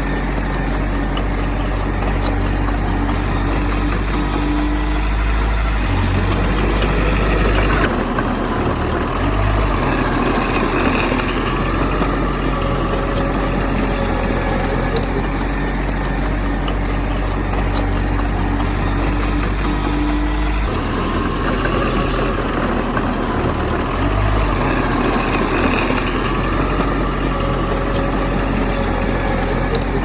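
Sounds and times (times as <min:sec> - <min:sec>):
heavy diesel engine drone: 0:00.0 - 0:30.0.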